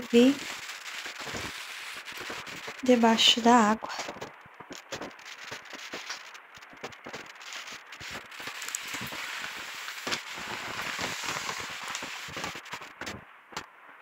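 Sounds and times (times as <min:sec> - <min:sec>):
rain dripping on plastic sheeting: 0:00.0 - 0:14.0
rain pattering on a roof: 0:00.0 - 0:14.0.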